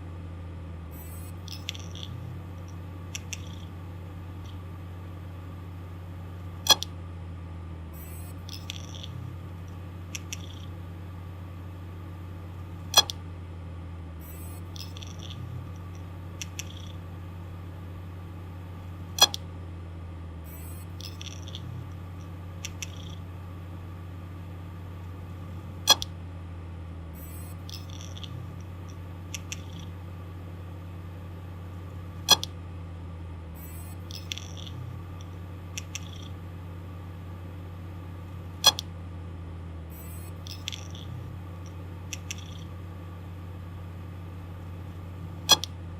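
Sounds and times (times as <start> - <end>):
hard disk drive humming: 0.0 - 45.9.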